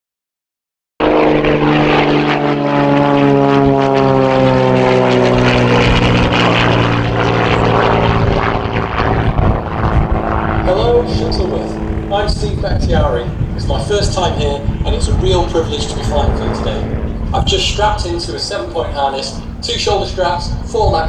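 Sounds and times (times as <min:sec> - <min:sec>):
airplane engine and propeller: 0:01.0 - 0:21.0.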